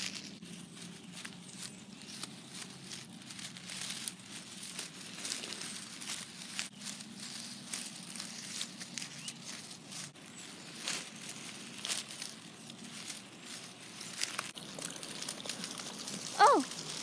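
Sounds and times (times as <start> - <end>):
grass and dry leaves rustling: 0.0 - 17.0.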